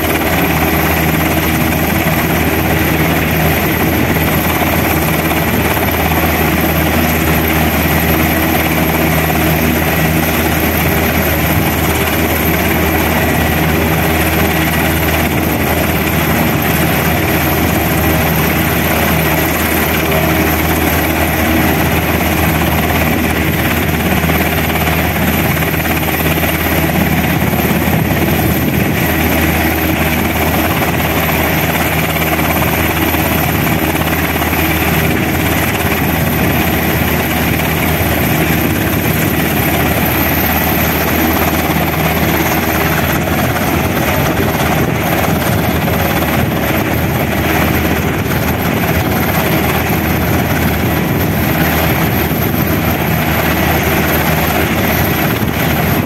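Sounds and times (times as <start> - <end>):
constant high whine: 0.0 - 56.0
helicopter rotors and engine: 0.0 - 56.0.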